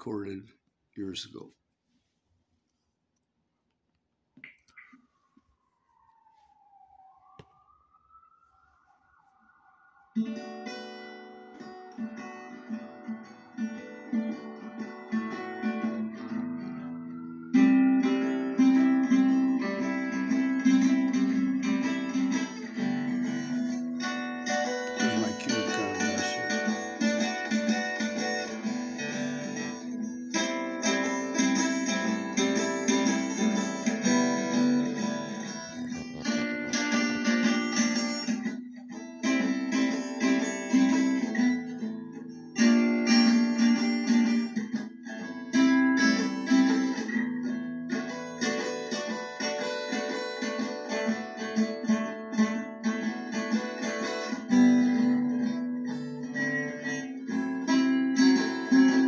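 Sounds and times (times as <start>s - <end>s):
guitar picking and strumming: 10.2s - 59.0s.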